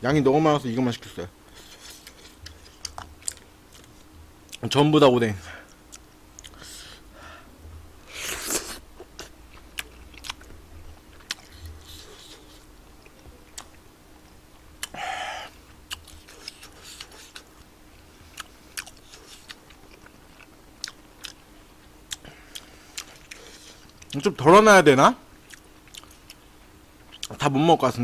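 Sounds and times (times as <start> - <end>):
person chewing food: 1.5 - 4.6, 5.6 - 7.0, 8.0 - 24.2, 25.4 - 27.4.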